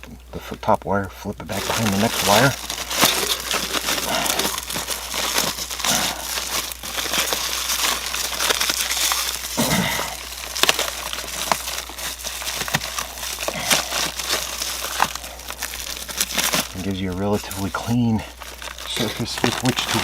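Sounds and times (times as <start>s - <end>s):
air duct liner crinkling: 0.0s - 20.0s.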